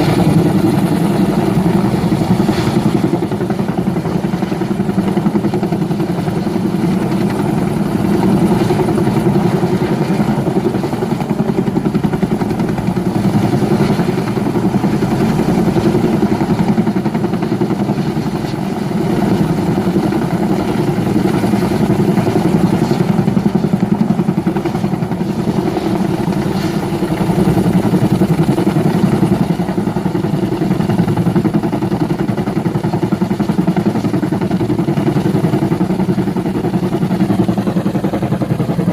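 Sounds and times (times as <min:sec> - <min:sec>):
helicopter rotor chopping: 0:00.0 - 0:38.9
turbine noise: 0:00.0 - 0:38.9.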